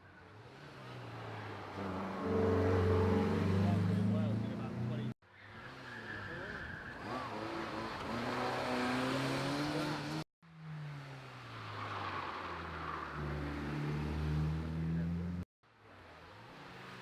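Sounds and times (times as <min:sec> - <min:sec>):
car engines accelerating hard: 0:00.1 - 0:15.5.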